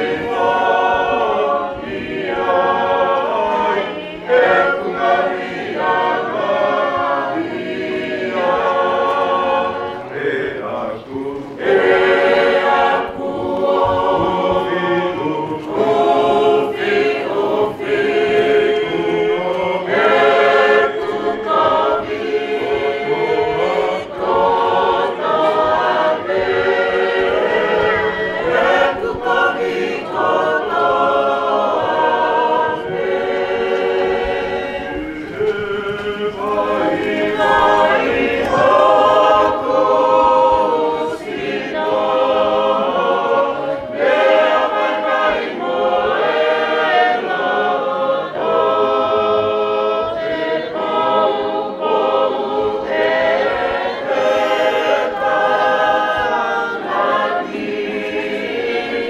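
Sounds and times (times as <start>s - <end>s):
group singing a hymn: 0.0s - 59.0s.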